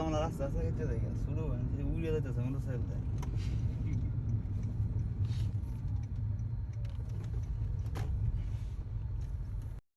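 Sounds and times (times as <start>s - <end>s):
car engine and road noise: 0.0s - 9.8s.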